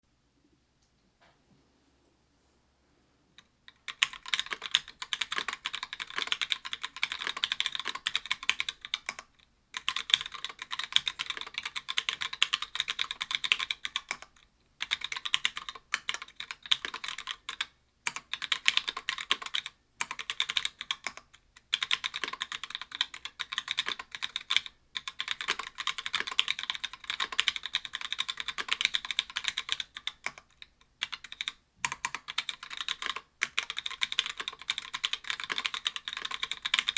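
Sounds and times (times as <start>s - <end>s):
mechanical keyboard typing: 3.7s - 36.9s.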